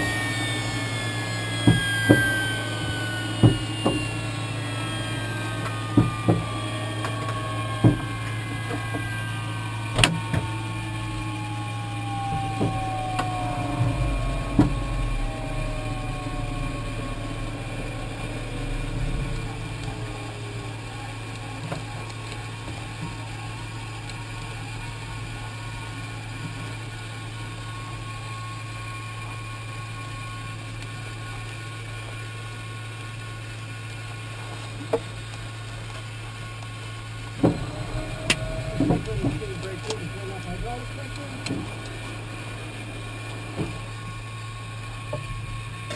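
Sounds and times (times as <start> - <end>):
jet engine spooling down: 0.0 - 45.9
steady low hum: 0.0 - 45.9.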